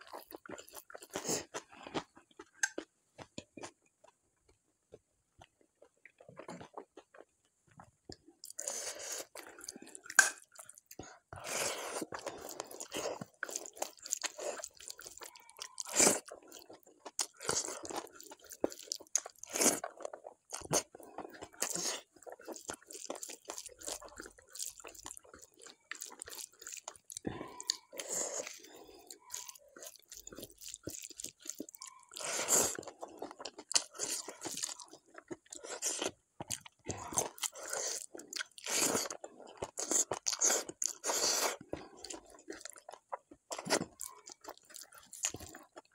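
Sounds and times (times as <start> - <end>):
wet chewing: 8.1 - 45.9.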